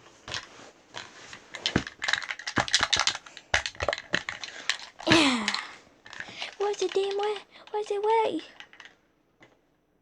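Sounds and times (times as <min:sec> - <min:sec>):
sharp clicks and knocks: 0:00.3 - 0:09.6.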